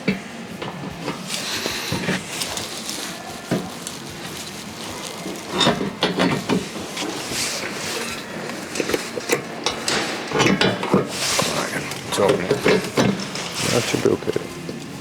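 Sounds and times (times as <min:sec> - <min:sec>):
metal parts clattering: 0:00.6 - 0:15.0.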